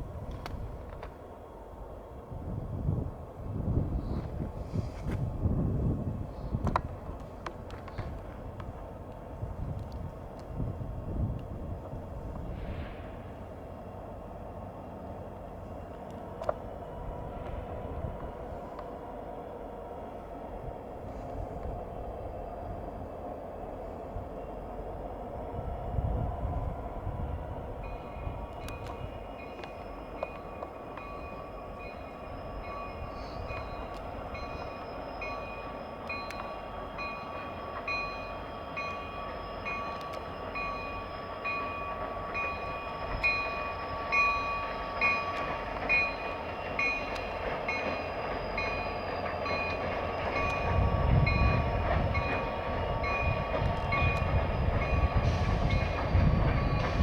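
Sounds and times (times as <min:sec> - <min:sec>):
train engine rumble: 0:00.0 - 0:57.0.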